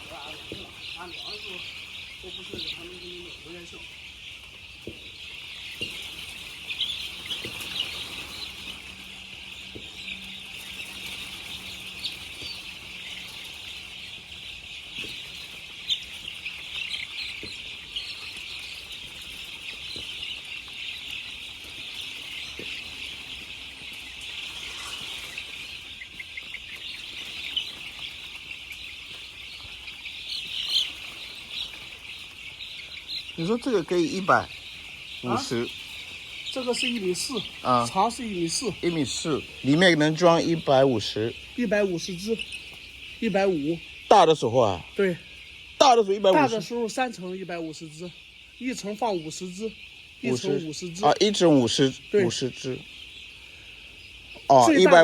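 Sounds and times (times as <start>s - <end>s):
many birds chirping: 0.0s - 55.0s.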